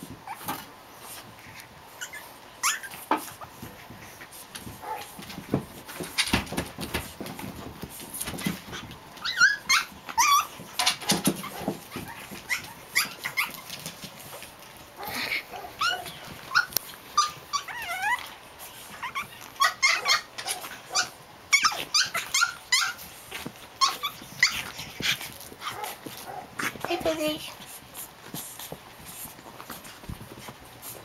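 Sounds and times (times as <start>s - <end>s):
puppies play-growling: 0.0s - 31.0s
puppies yipping and squealing: 1.9s - 4.2s, 6.0s - 6.6s, 8.2s - 31.0s.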